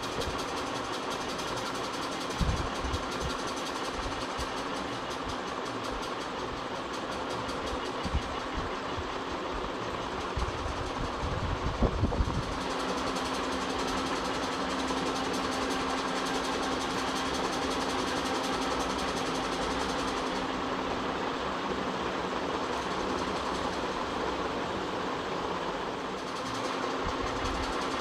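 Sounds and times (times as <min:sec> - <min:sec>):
ceiling fan humming: 0:00.0 - 0:28.0
rough fan bearing noise: 0:00.0 - 0:28.0.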